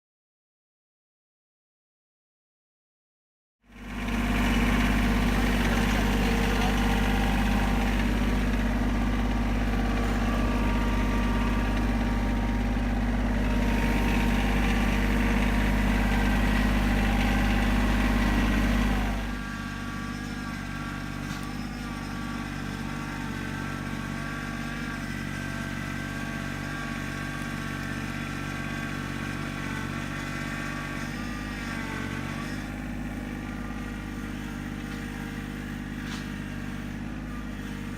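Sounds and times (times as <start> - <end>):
engine running: 3.6 - 37.9.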